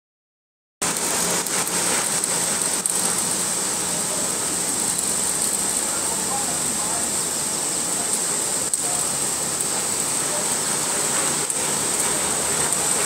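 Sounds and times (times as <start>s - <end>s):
thin high whine: 0.8s - 13.0s
welding crackling hiss: 0.8s - 13.0s.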